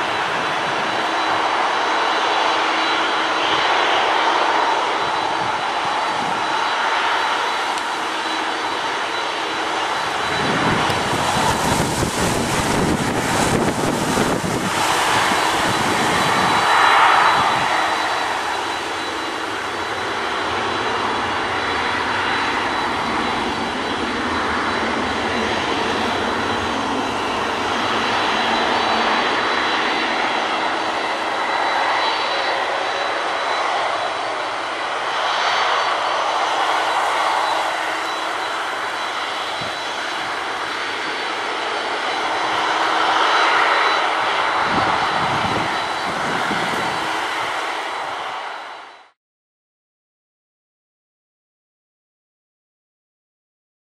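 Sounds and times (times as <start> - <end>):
jet engine whine: 0.0 - 49.2
reverse thrust engine rush: 0.0 - 49.2.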